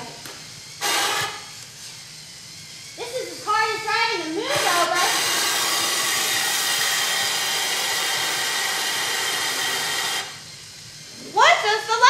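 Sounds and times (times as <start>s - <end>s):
electric blower motor whining: 0.0s - 12.0s.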